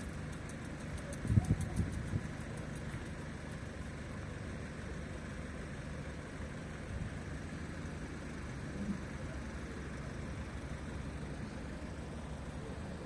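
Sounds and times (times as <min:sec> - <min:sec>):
vehicle engines idling: 0:00.0 - 0:13.0.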